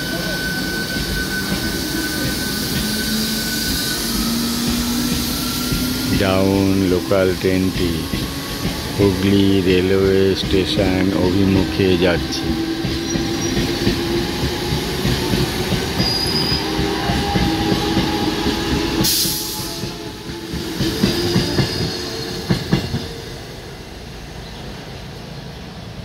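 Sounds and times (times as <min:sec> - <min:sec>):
train humming: 0:00.0 - 0:26.0
train wheels clattering over joints: 0:00.9 - 0:23.2.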